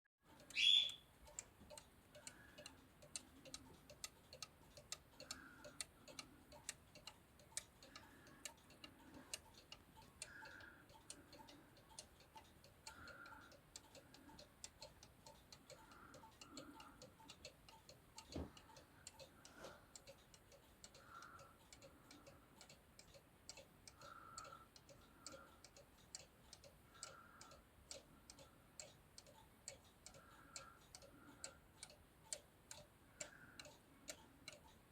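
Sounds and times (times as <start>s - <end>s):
clock pendulum ticking: 0.3s - 34.9s.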